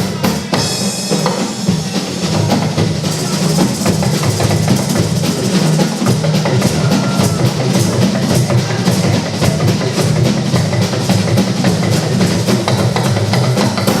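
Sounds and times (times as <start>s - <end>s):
drums and percussion: 0.0s - 14.0s
steady bass line: 1.7s - 14.0s.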